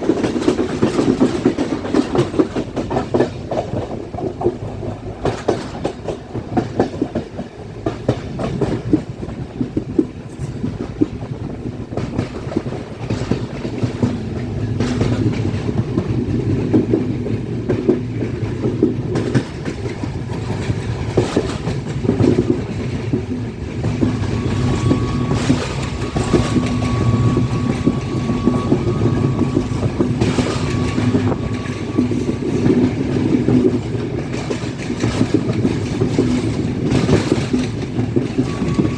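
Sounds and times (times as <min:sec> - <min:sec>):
passenger train rumbling: 0:00.0 - 0:38.9
wheels clicking over rail joints: 0:00.0 - 0:38.9.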